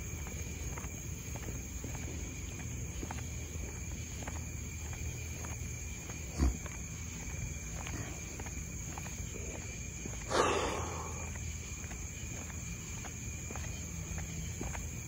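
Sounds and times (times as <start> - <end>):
faint footsteps: 0.0 - 15.0
insects droning: 0.0 - 15.0.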